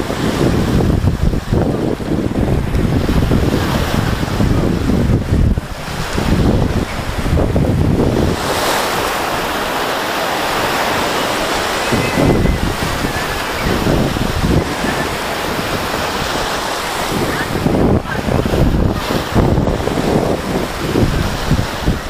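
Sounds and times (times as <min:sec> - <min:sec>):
small waves breaking on sand: 0:00.0 - 0:22.0
wind buffeting microphone: 0:00.0 - 0:22.0.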